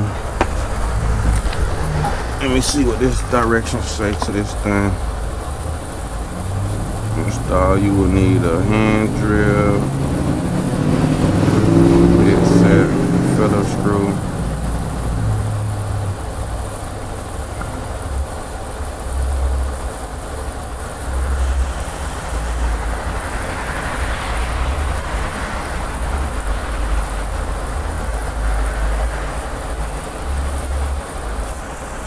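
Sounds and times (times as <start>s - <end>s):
steady hiss: 0.0s - 32.0s
wind buffeting microphone: 0.0s - 32.0s.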